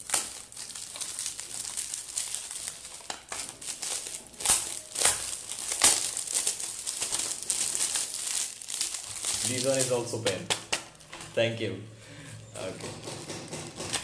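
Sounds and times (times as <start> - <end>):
wrapping paper crinkling: 0.0 - 11.4.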